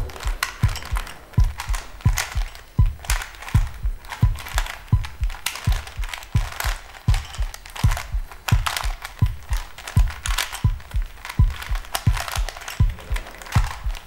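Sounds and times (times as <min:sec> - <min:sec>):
music with low thudding beat: 0:00.0 - 0:14.0
sharp clicks and crackles: 0:00.0 - 0:14.0.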